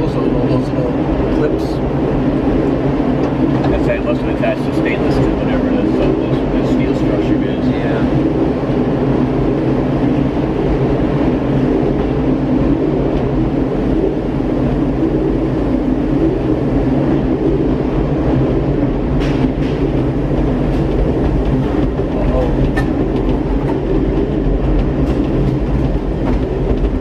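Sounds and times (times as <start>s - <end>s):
tram mechanical rumble: 0.0s - 27.0s.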